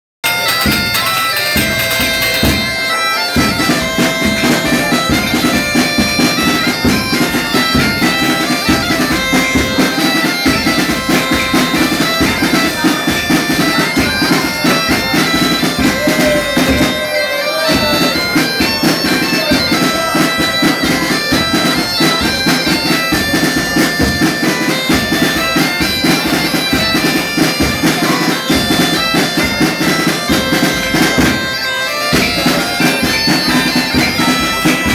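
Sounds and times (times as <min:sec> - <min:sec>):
bagpipes playing: 0:00.2 - 0:34.9.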